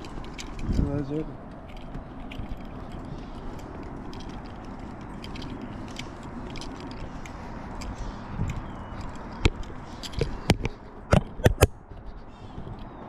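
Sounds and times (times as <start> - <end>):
footsteps on a trail: 0.0 - 13.0
low outdoor rumble: 0.0 - 13.0.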